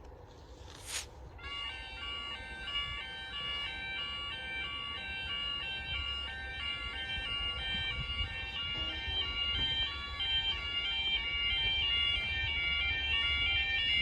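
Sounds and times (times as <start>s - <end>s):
two-tone crossing alarm: 1.4s - 14.0s.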